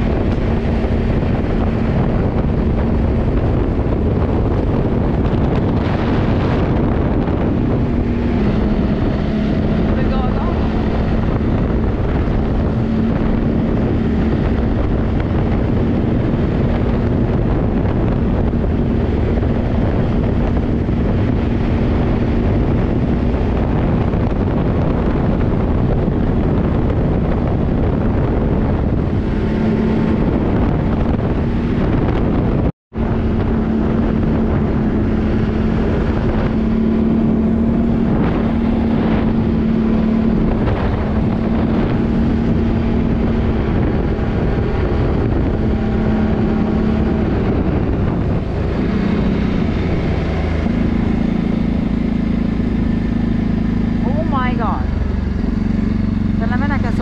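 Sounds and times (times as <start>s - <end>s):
atv engine running: 0.0s - 57.0s
wind on microphone: 0.0s - 57.0s.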